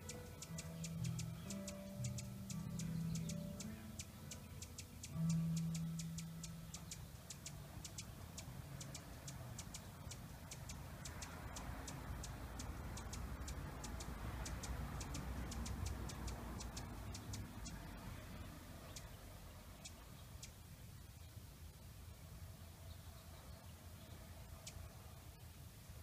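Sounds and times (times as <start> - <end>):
hummingbird chipping: 0.0 - 21.0, 24.0 - 25.0.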